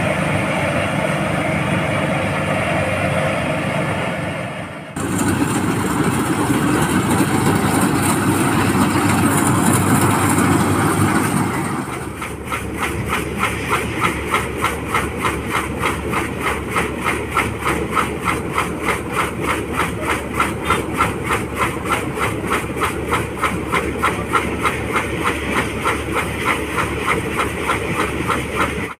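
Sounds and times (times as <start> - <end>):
combine harvester din: 0.0 - 29.0
pulsing auger pouring grain: 5.0 - 29.0.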